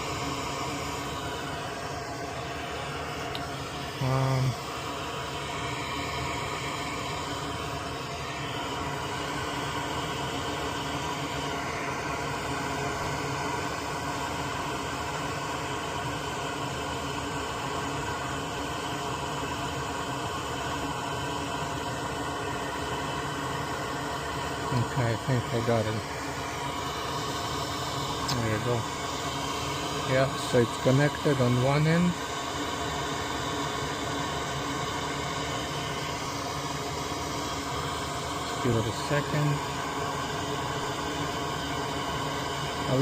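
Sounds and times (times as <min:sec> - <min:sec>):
extractor fan whirring: 0:00.0 - 0:43.0.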